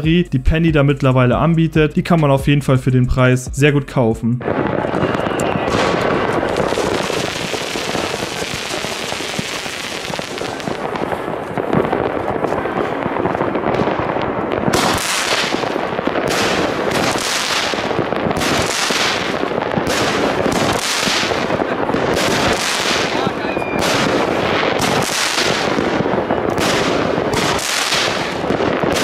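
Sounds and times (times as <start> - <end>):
firework hissing: 4.4 - 12.5, 13.1 - 29.0
firework bangs with crackle: 4.4 - 29.0.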